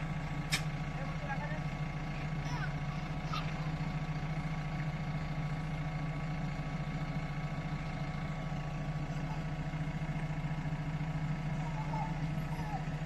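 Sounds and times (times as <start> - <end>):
machine engine humming: 0.0 - 13.0.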